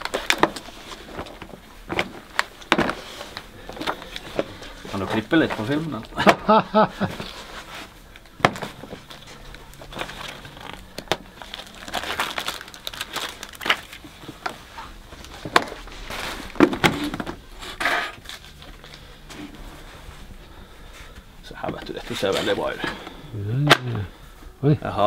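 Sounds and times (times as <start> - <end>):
plastic packaging crinkling: 0.0 - 20.3.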